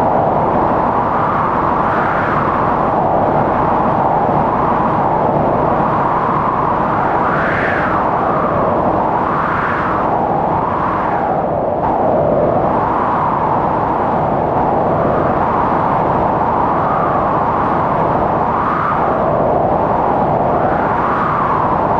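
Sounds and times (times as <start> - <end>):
blizzard wind howling: 0.0 - 21.9.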